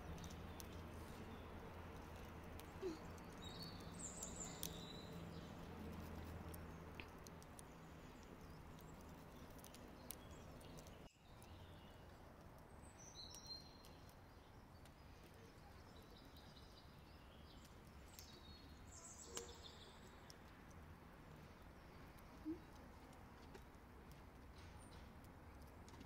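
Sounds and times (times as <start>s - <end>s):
faint clicks: 0.0s - 16.8s, 17.5s - 26.0s
small bird chirping: 0.0s - 23.3s.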